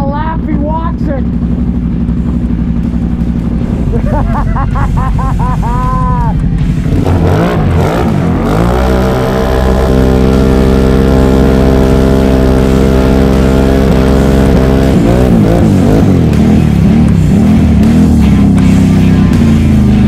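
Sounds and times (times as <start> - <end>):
engine running at high revs: 0.0 - 20.0.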